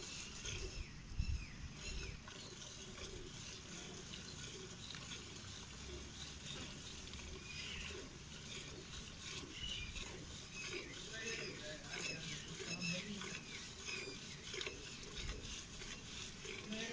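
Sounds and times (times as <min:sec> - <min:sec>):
milk squirting into metal pail: 0:01.7 - 0:16.9.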